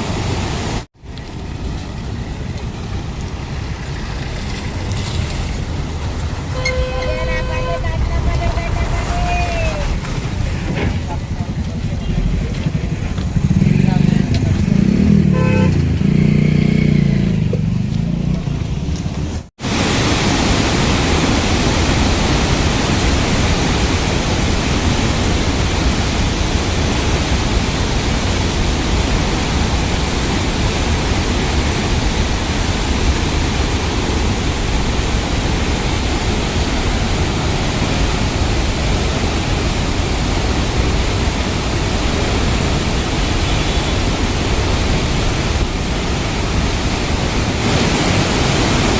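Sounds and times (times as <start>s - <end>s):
water rushing through dam spillway: 0.0s - 15.0s, 19.6s - 48.9s.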